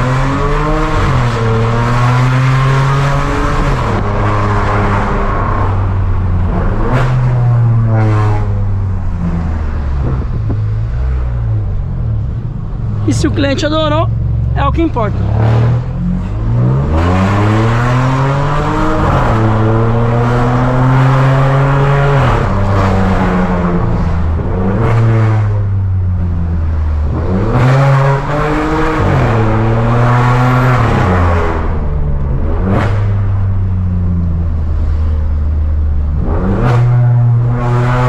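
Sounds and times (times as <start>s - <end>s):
car engine accelerating with upshifts: 0.0s - 38.0s.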